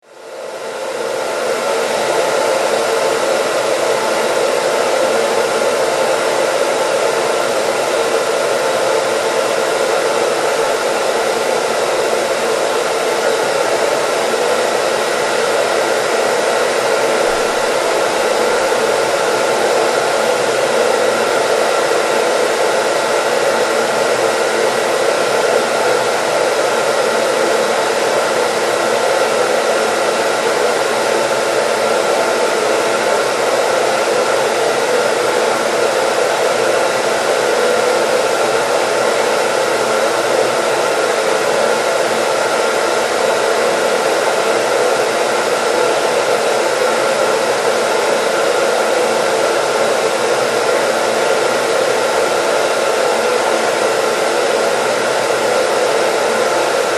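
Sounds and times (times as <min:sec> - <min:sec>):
hair dryer blowing: 0:00.0 - 0:56.9.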